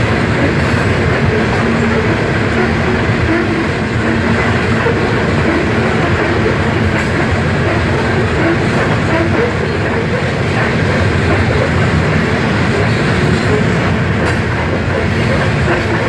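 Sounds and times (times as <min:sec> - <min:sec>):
steel wheels running on rails: 0:00.0 - 0:16.0.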